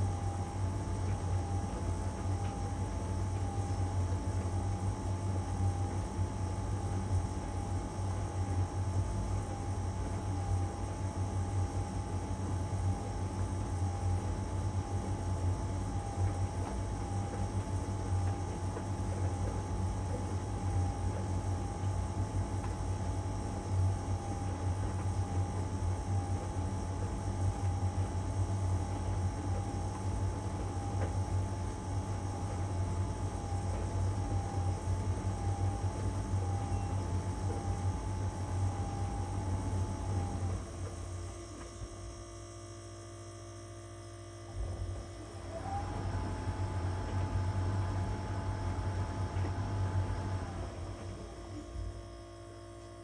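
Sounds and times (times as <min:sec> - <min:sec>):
tumble dryer running: 0:00.0 - 0:42.1, 0:44.4 - 0:52.0.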